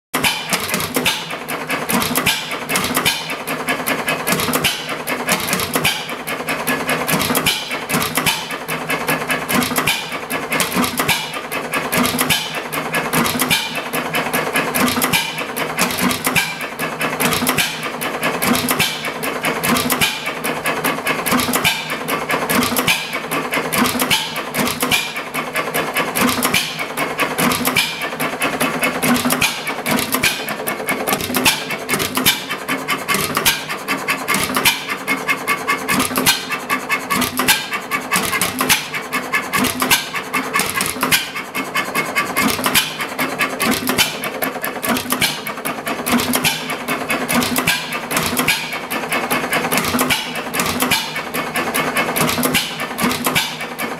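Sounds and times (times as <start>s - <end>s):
old engine mechanical clatter: 0.2s - 53.9s.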